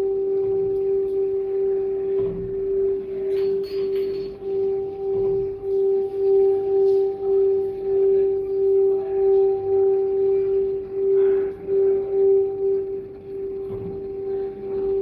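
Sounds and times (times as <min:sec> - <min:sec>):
singing bowl sustained tone: 0:00.0 - 0:15.0.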